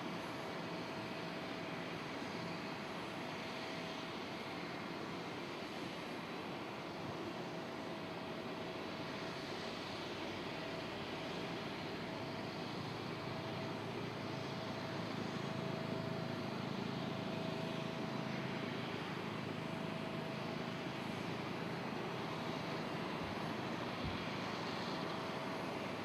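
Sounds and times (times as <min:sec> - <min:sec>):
jet airliner engines rushing: 0:00.0 - 0:26.0
thin steady whine: 0:00.0 - 0:26.0.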